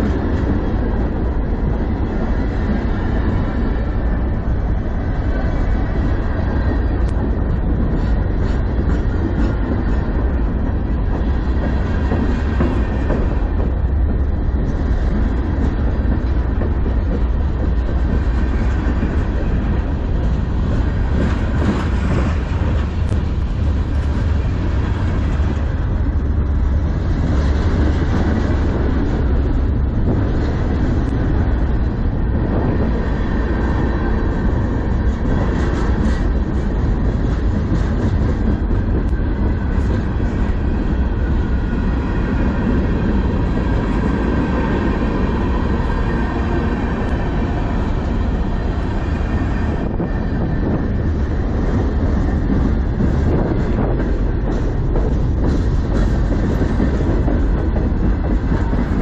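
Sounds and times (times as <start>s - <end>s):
clickety-clack of wheels: 0.0s - 59.0s
train wheels rumbling on rails: 0.0s - 59.0s.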